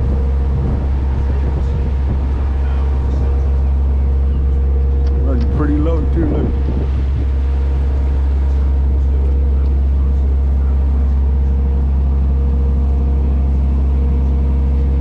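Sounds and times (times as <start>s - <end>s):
boat engine droning: 0.0s - 15.0s
wake washing along hull: 0.0s - 15.0s.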